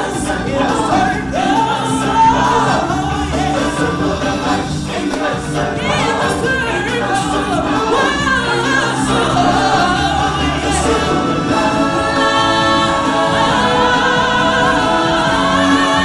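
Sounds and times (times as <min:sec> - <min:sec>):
choir singing: 0:00.0 - 0:16.0
full band backing music: 0:00.0 - 0:16.0.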